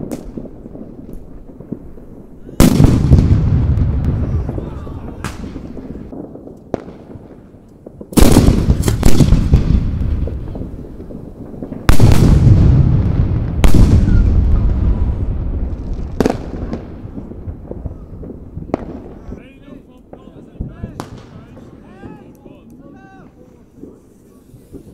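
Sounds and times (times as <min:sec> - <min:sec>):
firework shells booming: 0:00.0 - 0:24.9
sharp firework cracks: 0:00.0 - 0:24.9.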